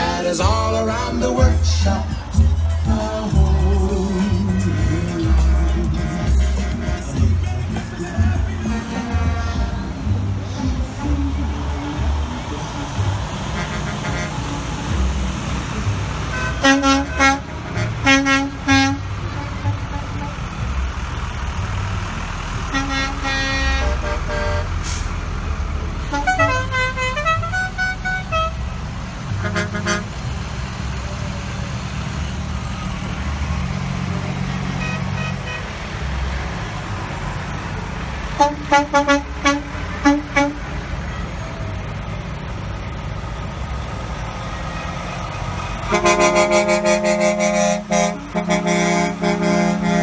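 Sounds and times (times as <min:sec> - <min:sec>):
truck engines rumbling: 0:00.0 - 0:50.0
truck horns honking: 0:00.0 - 0:50.0.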